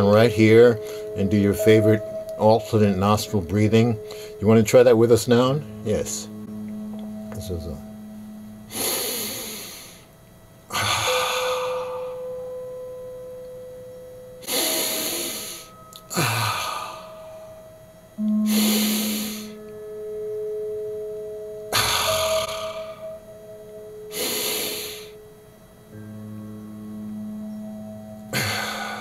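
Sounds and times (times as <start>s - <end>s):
drone of sustained tones: 0.0s - 29.0s.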